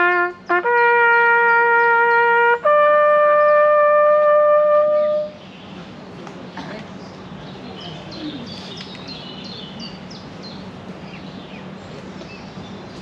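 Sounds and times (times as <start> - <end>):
outdoor background noise: 0.0 - 13.0
songbird chirping: 0.0 - 13.0.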